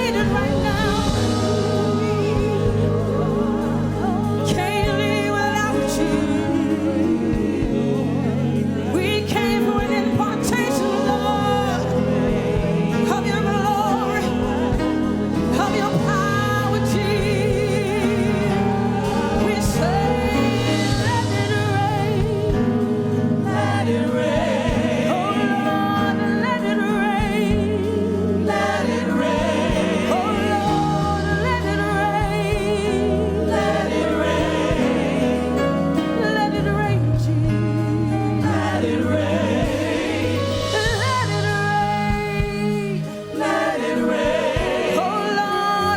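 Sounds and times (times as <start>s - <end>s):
choir singing gospel: 0.0s - 45.9s
instrumental accompaniment: 0.0s - 45.9s.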